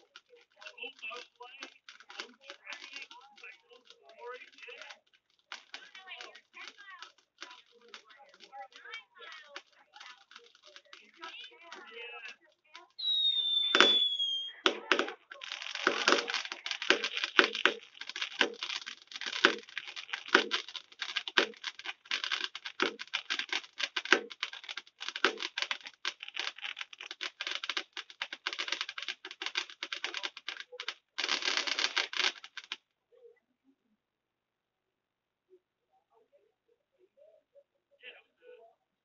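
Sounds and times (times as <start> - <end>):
fireworks crackling and popping: 0.0 - 32.8.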